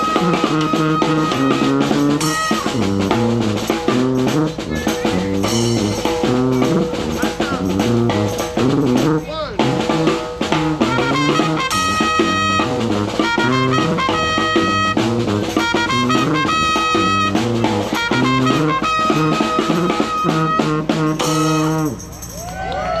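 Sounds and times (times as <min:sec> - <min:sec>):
snare drum: 0:00.0 - 0:22.0
sousaphone bass line: 0:00.0 - 0:22.0
trumpet lead: 0:00.0 - 0:22.0.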